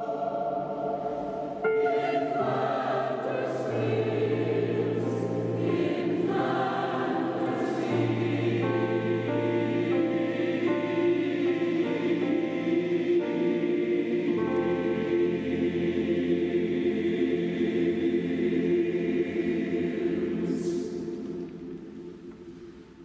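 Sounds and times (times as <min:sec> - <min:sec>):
church choir singing: 0:00.0 - 0:22.9.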